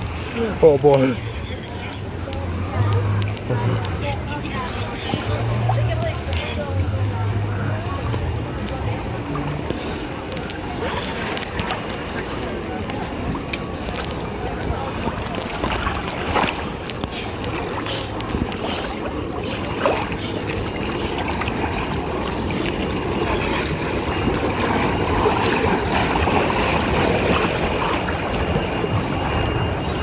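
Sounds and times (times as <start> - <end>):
water sloshing and lapping: 0.0 - 30.0.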